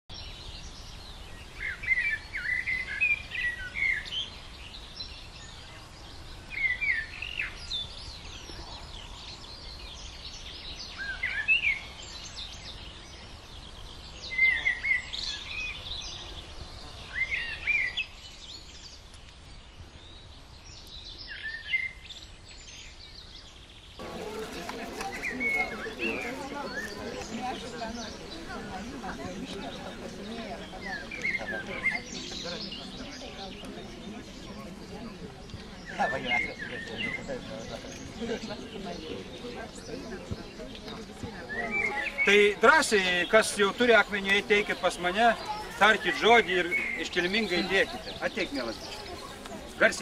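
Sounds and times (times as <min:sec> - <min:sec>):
bird warbling song: 0:00.1 - 0:50.0.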